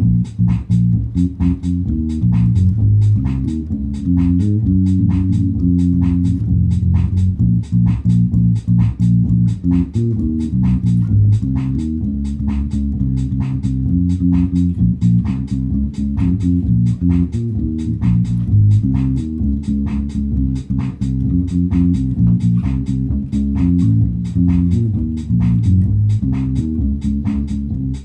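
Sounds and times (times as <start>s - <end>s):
bass guitar plucked low notes: 0.0s - 28.0s.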